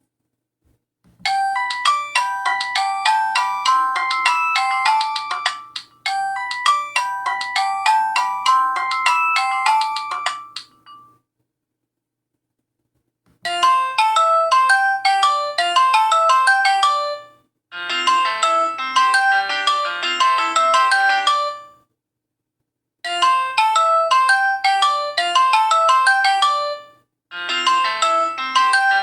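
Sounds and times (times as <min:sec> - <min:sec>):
electronic phone ringtone melody: 0:01.3 - 0:11.1, 0:13.5 - 0:21.8, 0:23.1 - 0:29.0.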